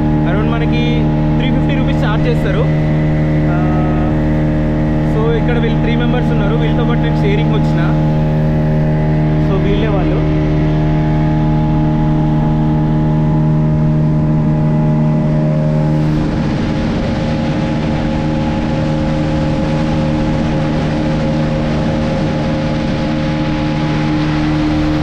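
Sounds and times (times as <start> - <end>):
broad rushing noise: 0.0 - 25.0
speedboat engine running: 0.0 - 25.0.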